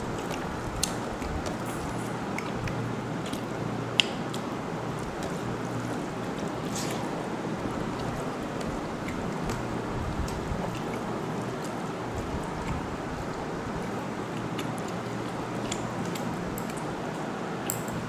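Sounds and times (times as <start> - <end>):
background hum: 0.0 - 18.0
wet mixing of food by hand: 0.0 - 18.0.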